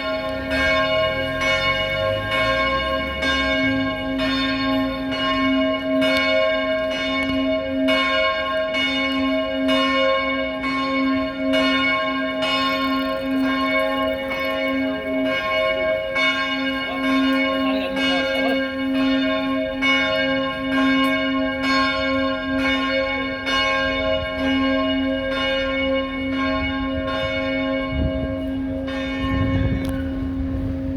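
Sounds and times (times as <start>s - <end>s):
church bell tolling: 0.0s - 30.9s.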